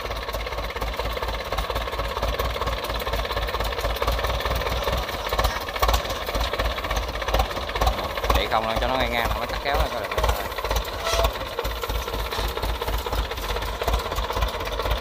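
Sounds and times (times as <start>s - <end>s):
small diesel engine chugging: 0.0s - 15.0s.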